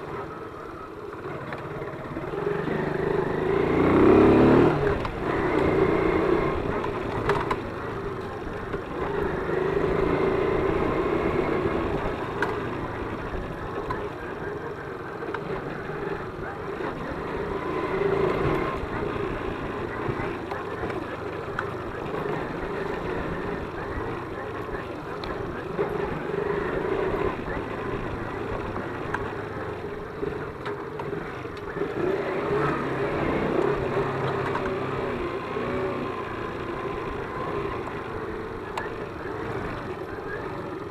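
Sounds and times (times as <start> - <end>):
moped engine running: 0.0 - 40.9.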